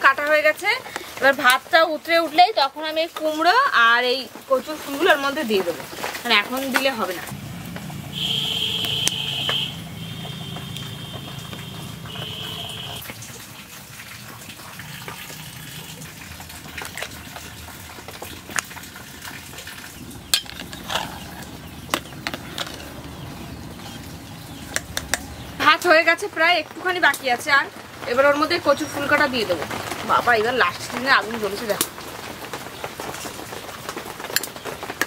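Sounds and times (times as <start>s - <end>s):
rice boiling and bubbling: 0.0s - 35.0s.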